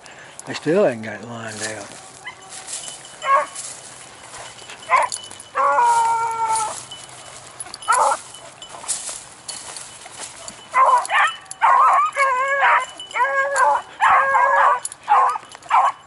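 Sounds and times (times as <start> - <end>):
dogs barking and baying: 1.5 - 16.0.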